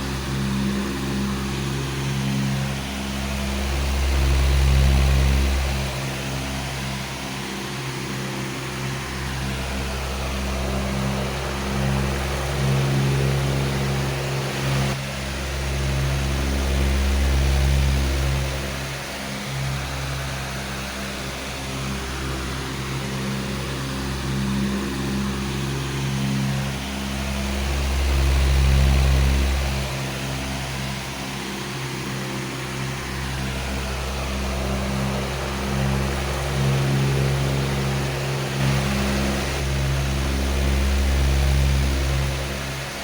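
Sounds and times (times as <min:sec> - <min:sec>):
electric fan running: 0:00.0 - 0:43.0.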